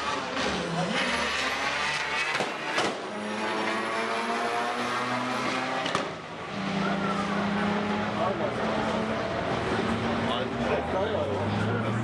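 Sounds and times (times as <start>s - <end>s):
car engines at high revs: 0.0s - 12.0s.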